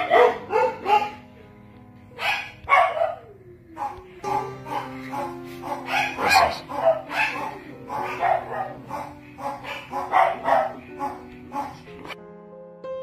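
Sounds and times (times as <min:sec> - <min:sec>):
dog barking: 0:00.0 - 0:01.2, 0:02.2 - 0:12.2
background music with held notes: 0:00.0 - 0:13.0.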